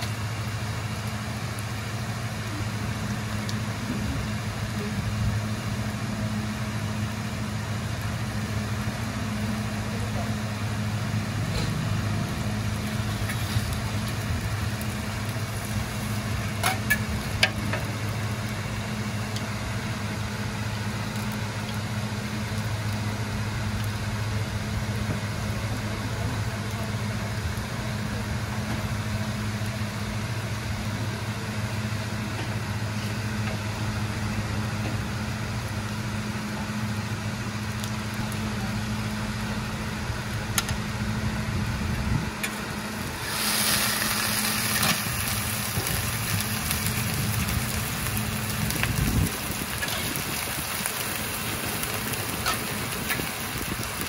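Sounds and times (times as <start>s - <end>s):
batter sizzling on griddle: 0.0s - 54.0s.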